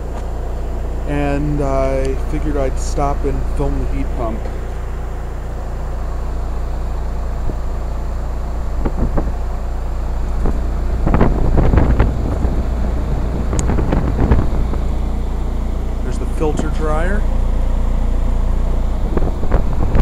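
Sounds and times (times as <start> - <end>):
heat pump humming: 0.0 - 20.0.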